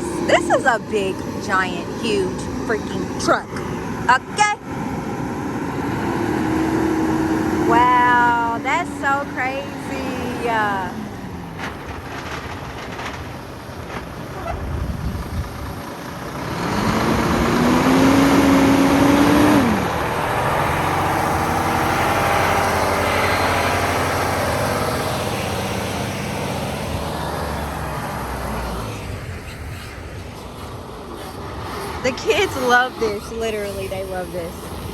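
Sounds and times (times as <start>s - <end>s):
truck engine revving: 0.0s - 34.9s.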